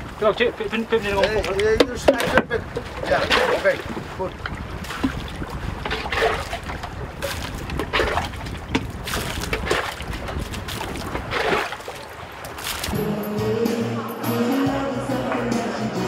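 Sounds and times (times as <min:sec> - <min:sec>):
wind rumble on microphone: 0:00.0 - 0:13.0
water splashing and sloshing: 0:00.0 - 0:13.3.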